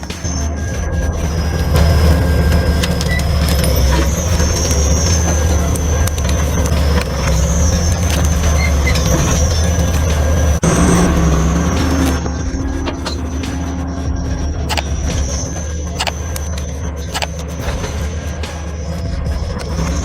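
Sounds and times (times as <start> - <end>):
excavator engine running under load: 0.0 - 20.0
high wavering metallic squeal: 0.0 - 20.0.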